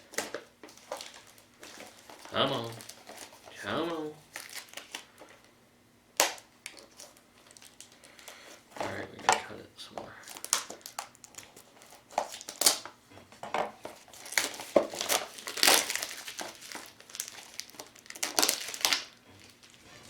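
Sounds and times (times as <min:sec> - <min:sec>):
plastic packaging crinkling and tearing: 0:00.0 - 0:05.5, 0:06.2 - 0:13.0, 0:13.8 - 0:20.0.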